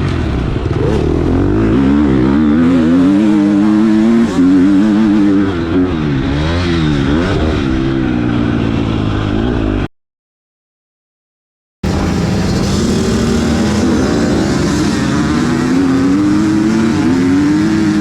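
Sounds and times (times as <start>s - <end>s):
motocross bike engine revving: 0.0s - 9.9s, 11.8s - 18.0s.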